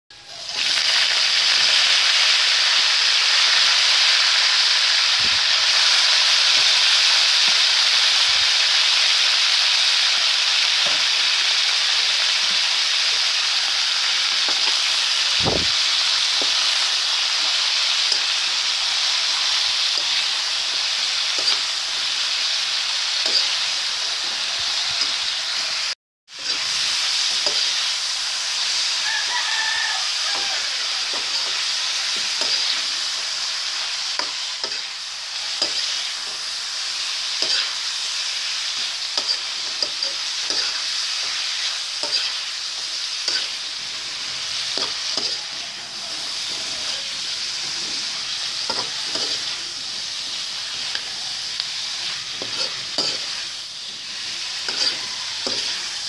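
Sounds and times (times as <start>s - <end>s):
greens sizzling in a hot pan: 0.2s - 56.0s.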